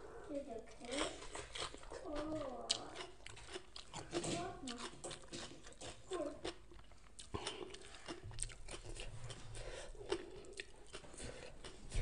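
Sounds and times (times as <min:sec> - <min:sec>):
person chewing crunchy food: 0:00.8 - 0:12.0.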